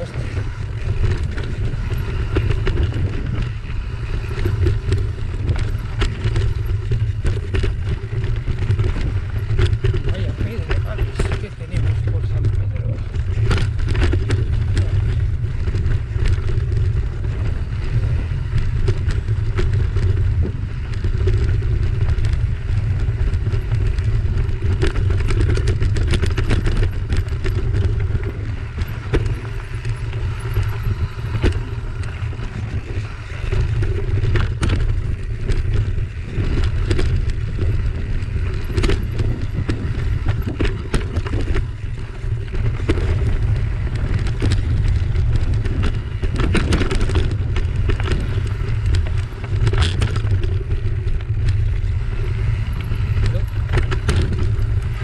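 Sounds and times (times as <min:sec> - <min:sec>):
bike knocking and rattling: 0:00.0 - 0:55.0
wind rumble on microphone: 0:00.0 - 0:55.0.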